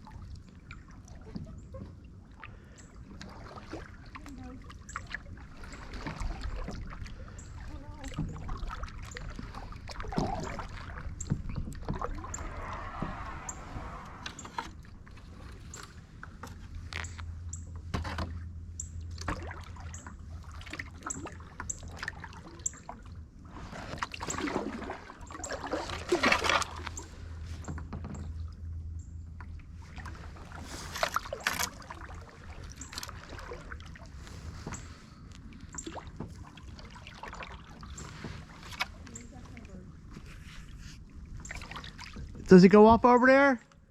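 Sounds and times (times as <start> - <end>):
paddle splashing in water: 0.0 - 17.3, 19.1 - 28.5, 29.4 - 43.9.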